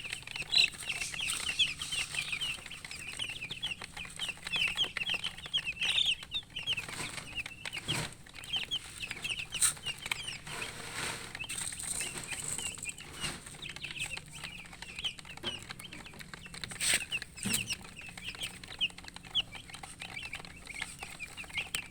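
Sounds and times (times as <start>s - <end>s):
baby chicks peeping: 0.0s - 21.9s.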